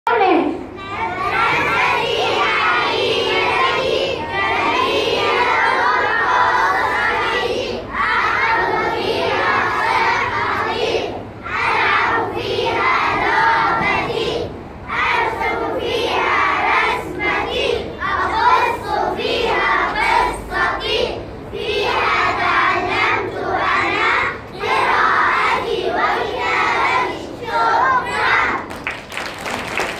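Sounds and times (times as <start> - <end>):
young children singing in unison: 0.7 - 28.8.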